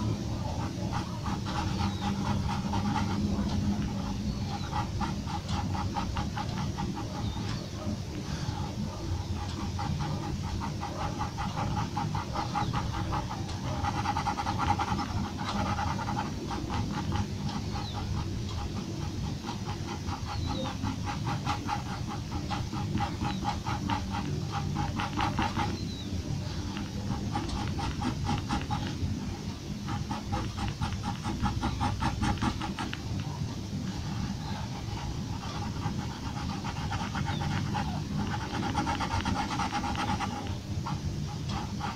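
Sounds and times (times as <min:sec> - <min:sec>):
pencil scratching on paper: 0:00.0 - 0:33.2, 0:33.8 - 0:41.9.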